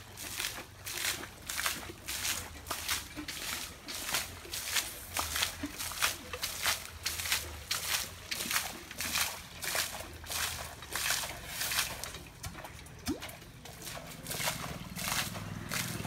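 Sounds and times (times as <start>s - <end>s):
muddy water splashing in gushes: 0.0s - 16.0s.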